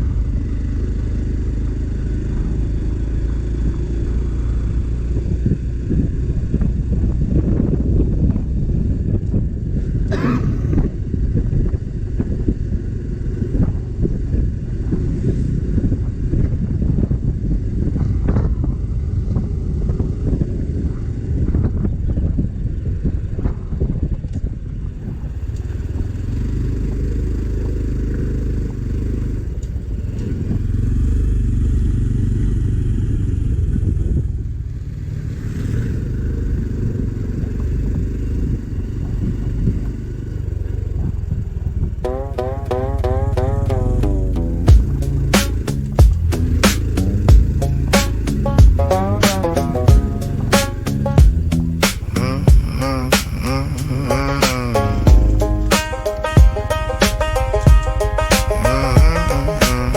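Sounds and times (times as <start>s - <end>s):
motorcycle engine rumble: 0.0s - 59.9s
road noise: 0.0s - 59.9s.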